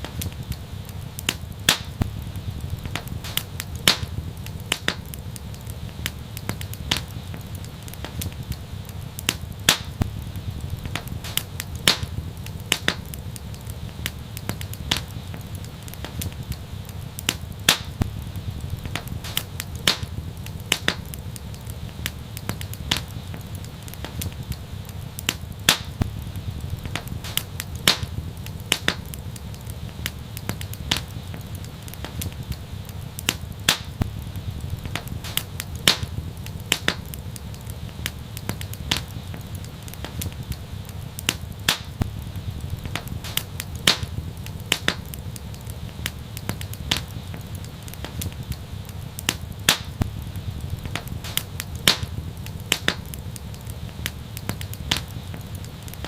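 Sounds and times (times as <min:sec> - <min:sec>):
low fire rumble: 0:00.0 - 0:56.0
wood fire crackling and popping: 0:00.0 - 0:56.0.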